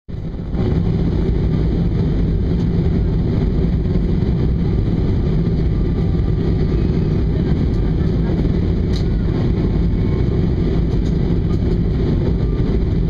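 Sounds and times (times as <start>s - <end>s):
airliner cabin noise: 0.1s - 13.0s.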